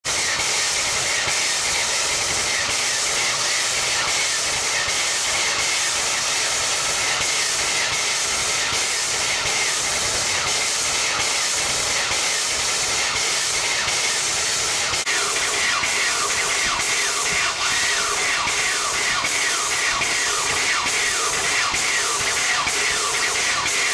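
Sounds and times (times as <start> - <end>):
steam locomotive hissing: 0.0 - 23.9.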